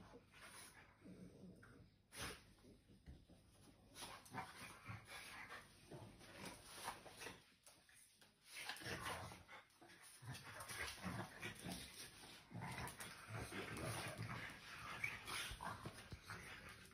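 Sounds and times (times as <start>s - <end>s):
dogs making breathy noises: 0.0s - 16.9s.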